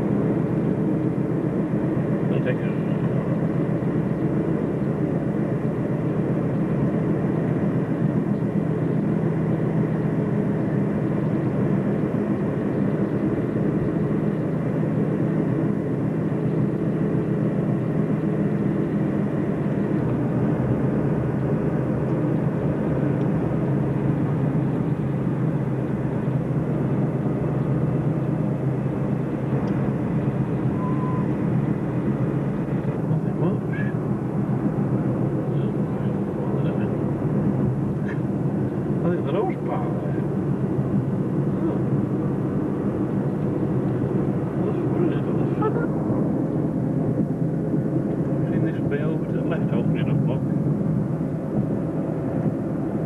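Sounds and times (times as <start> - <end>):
car cabin road and engine noise: 0.0 - 53.0.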